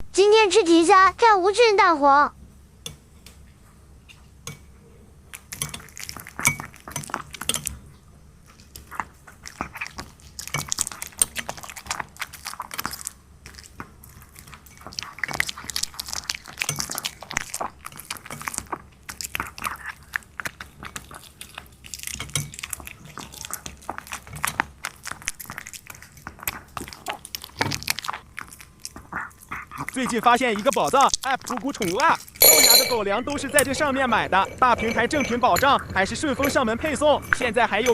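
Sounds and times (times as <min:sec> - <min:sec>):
puppy chewing and crunching: 0:02.9 - 0:37.9.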